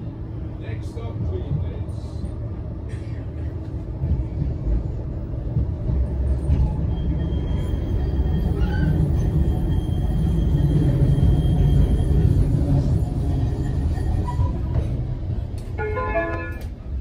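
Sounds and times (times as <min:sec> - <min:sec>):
tram rumbling on track: 0:00.0 - 0:17.0.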